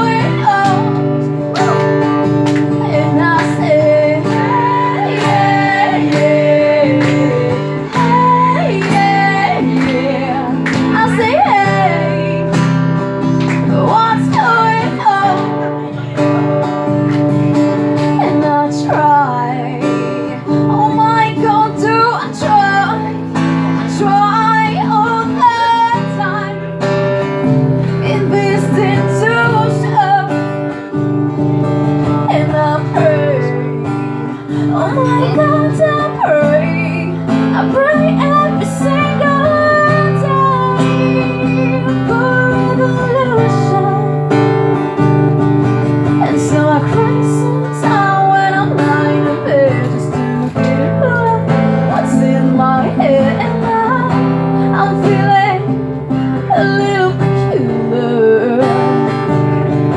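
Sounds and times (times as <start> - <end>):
acoustic guitar strumming: 0.0 - 59.9
woman singing: 0.0 - 59.9.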